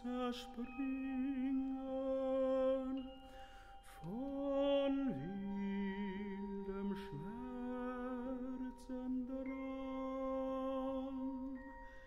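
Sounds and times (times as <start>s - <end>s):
soft held instrumental tones: 0.0s - 12.0s
tenor singing: 0.0s - 12.0s.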